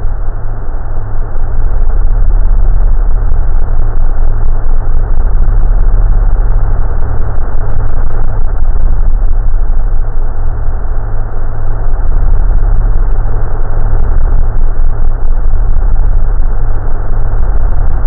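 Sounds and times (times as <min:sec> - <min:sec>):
low rumble with rough hiss: 0:00.0 - 0:18.0.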